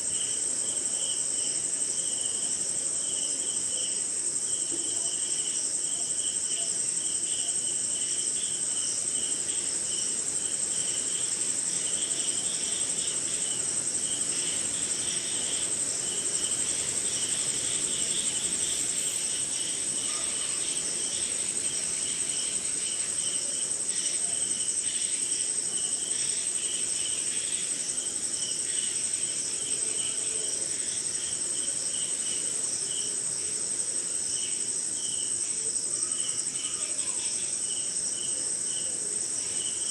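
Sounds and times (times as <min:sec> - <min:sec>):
crickets trilling: 0:00.0 - 0:39.9
rhythmic pulsing insect chirp: 0:00.0 - 0:39.9.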